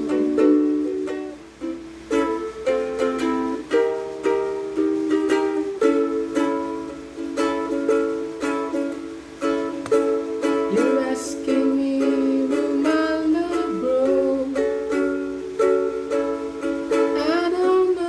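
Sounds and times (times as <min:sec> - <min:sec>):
ukulele strummed chords: 0:00.0 - 0:18.0.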